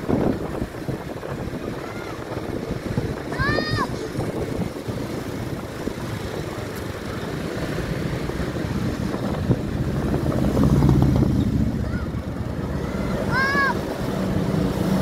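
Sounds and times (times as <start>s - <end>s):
bus diesel engine running: 0.0s - 15.0s
road noise: 0.0s - 15.0s.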